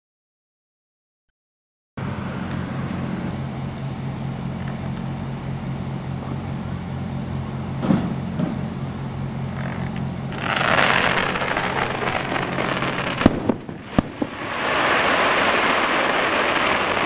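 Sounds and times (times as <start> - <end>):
outdoor background noise: 2.0 - 17.0
steady low hum: 2.0 - 17.0.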